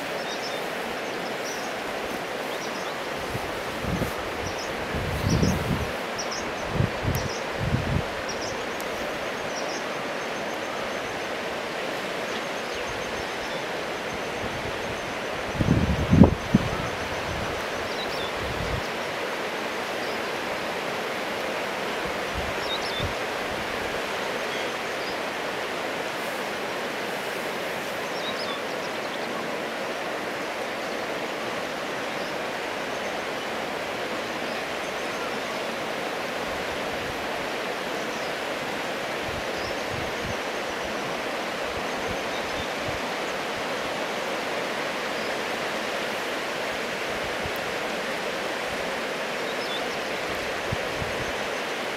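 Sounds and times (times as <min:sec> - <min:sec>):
river rapids over stones: 0:00.0 - 0:51.9.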